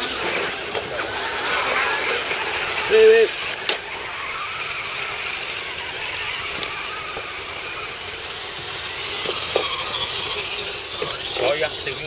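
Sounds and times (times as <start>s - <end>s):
electric motors whirring: 0.0s - 12.0s.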